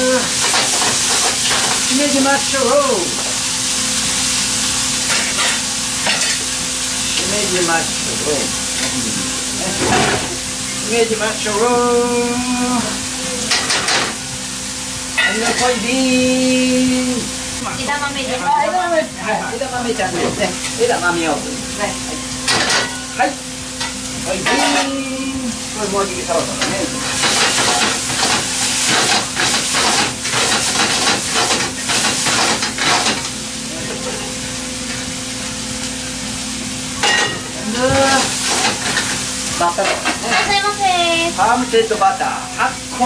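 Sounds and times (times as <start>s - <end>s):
rice sizzling in a frying pan: 0.0s - 43.0s.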